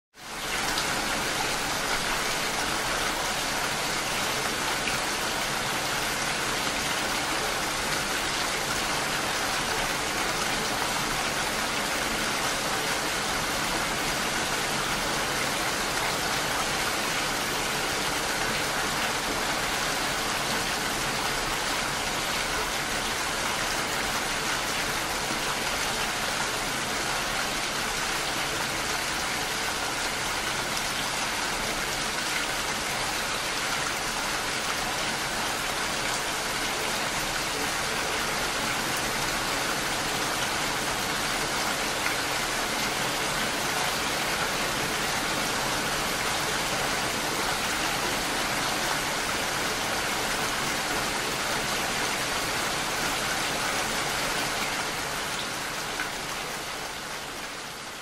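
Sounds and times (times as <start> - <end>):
steady rain falling: 0.1 - 58.0.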